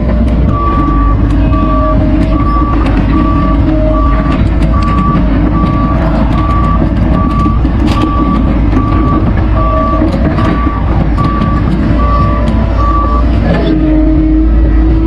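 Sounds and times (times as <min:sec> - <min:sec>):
excavator diesel engine: 0:00.0 - 0:15.0
machine knocks and clanks: 0:00.1 - 0:13.6
motion alarm beeping: 0:00.5 - 0:13.4.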